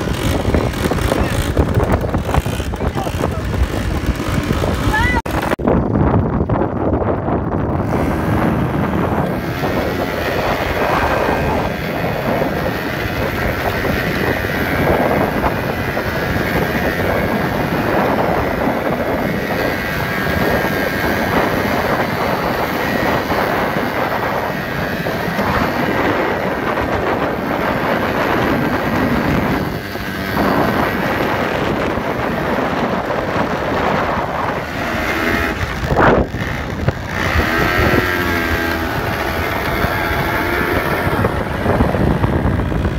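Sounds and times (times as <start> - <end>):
atv engine running: 0.0 - 42.9
wind noise on microphone: 0.0 - 42.9.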